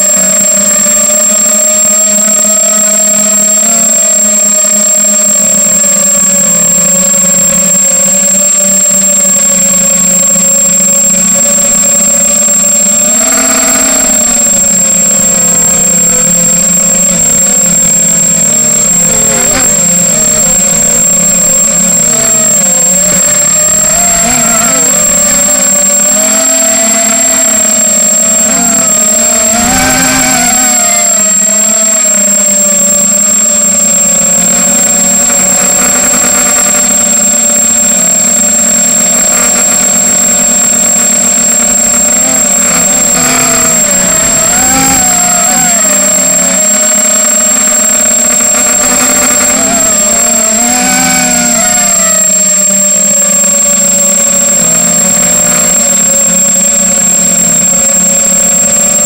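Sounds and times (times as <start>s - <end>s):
high whine: 0.0s - 59.0s
quadcopter motors buzzing: 0.0s - 59.0s.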